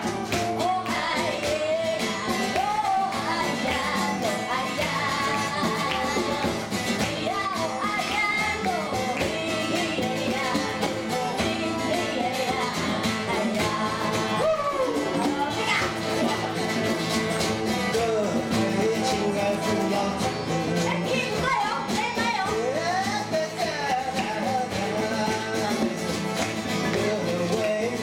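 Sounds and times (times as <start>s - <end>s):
woman singing: 0.0s - 16.6s, 17.9s - 26.2s
strummed acoustic guitar: 0.0s - 28.0s.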